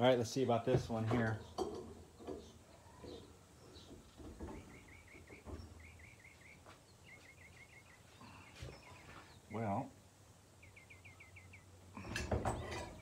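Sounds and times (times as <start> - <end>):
faint bird chirping: 1.2 - 13.0.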